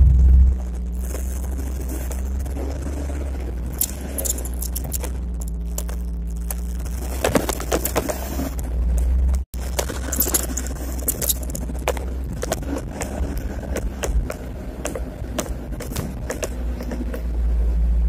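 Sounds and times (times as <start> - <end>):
heavy diesel engine running: 0.0 - 18.0
clattering and rattling: 1.0 - 17.4.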